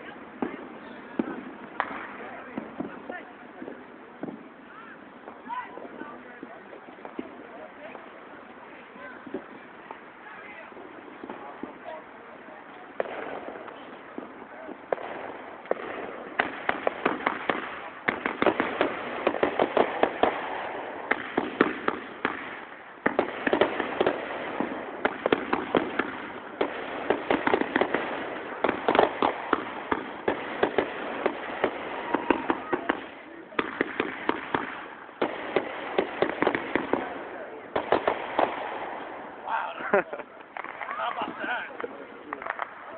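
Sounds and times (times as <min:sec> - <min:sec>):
fireworks popping in rapid runs: 0:00.0 - 0:42.9.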